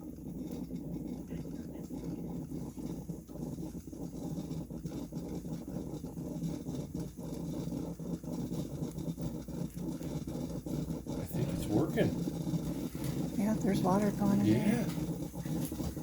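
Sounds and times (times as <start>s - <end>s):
small irregular ticks: 0.0s - 16.0s
water bubbling in coffee maker: 0.0s - 16.0s.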